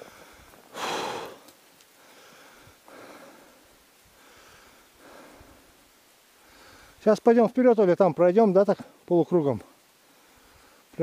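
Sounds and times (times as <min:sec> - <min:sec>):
soft breaths: 0:00.0 - 0:07.1, 0:08.8 - 0:11.0.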